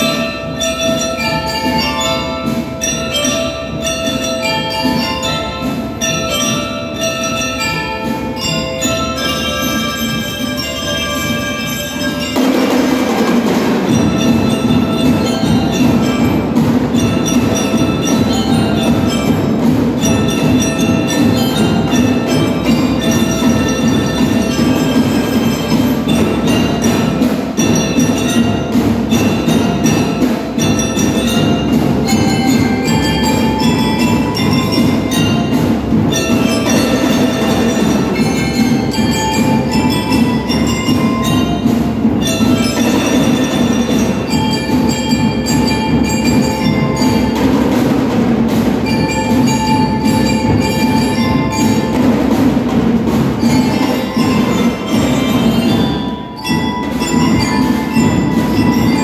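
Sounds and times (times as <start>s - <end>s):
bell lyres playing melody: 0.0s - 59.0s
marching drums beating: 0.0s - 59.0s.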